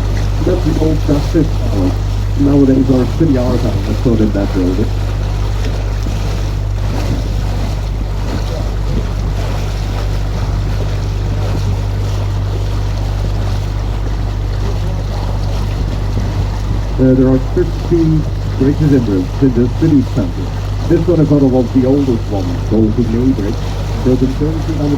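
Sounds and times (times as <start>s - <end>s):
boat engine humming: 0.0s - 24.9s
water rushing past hull: 0.0s - 24.9s
wind on microphone: 0.0s - 24.9s.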